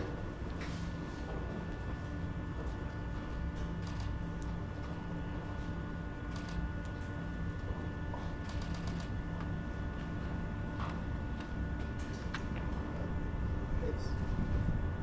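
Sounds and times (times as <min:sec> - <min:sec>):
faint hums: 0:00.0 - 0:15.0.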